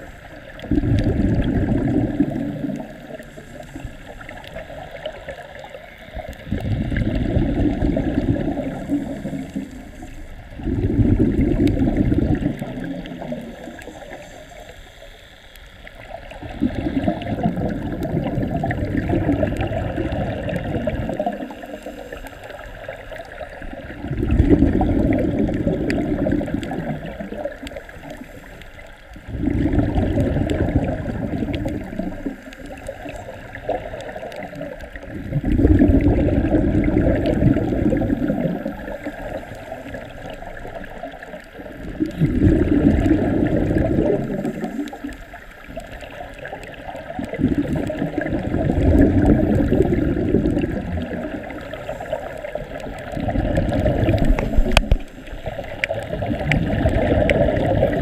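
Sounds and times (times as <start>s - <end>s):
underwater exhaust bubbles gurgling: 0.0s - 58.0s.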